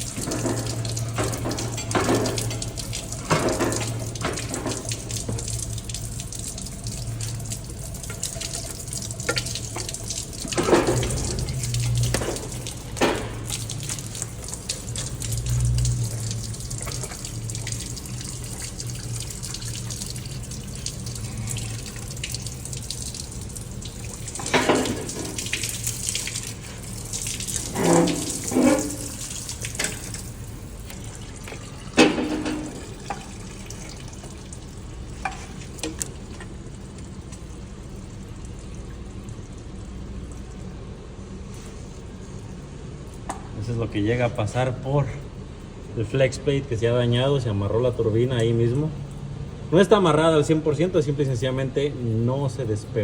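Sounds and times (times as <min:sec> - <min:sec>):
low hum and hiss: 0:00.0 - 0:53.0.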